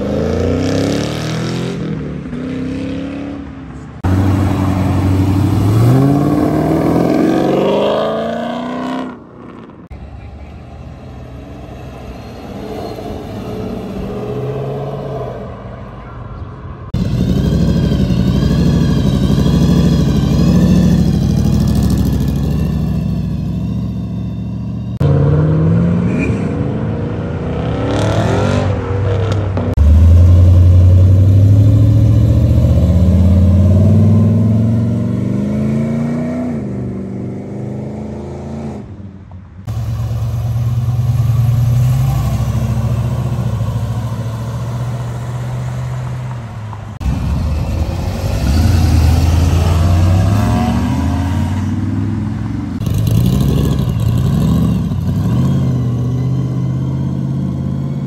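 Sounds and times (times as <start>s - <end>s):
car engines accelerating: 0.0s - 58.0s.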